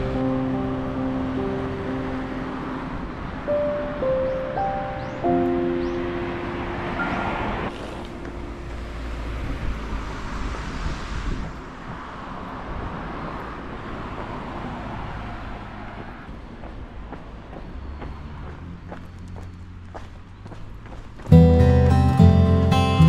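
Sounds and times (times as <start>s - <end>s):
vehicle passing by: 0.0s - 22.3s
traffic rumble: 0.0s - 23.0s.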